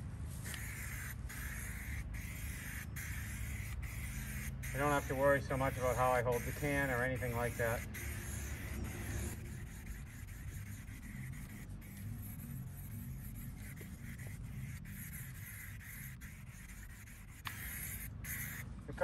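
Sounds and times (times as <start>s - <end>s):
low steady rumble: 0.0s - 17.4s
aerosol spray can hissing: 0.4s - 18.6s.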